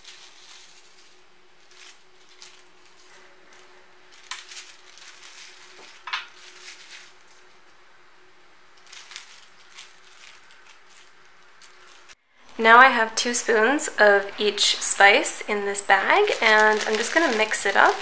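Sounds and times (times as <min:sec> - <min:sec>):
plastic bag handling: 0:00.0 - 0:07.7, 0:08.7 - 0:12.8, 0:14.4 - 0:18.0.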